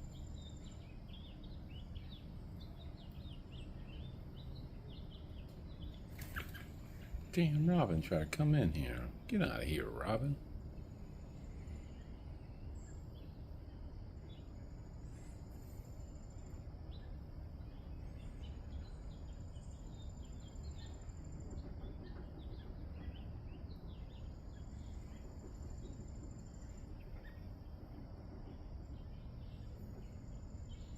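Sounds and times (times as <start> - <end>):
low background rumble: 0.0 - 30.9.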